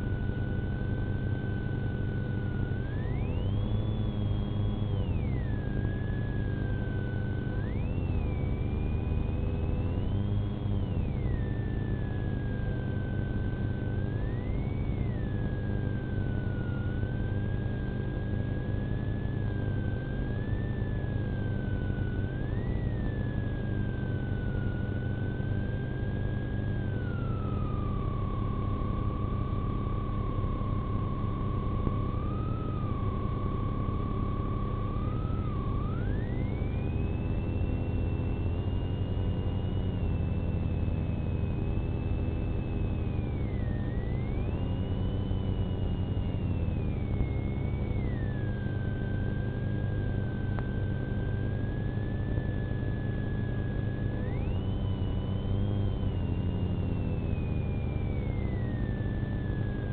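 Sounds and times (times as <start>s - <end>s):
high siren whine: 0.0s - 59.9s.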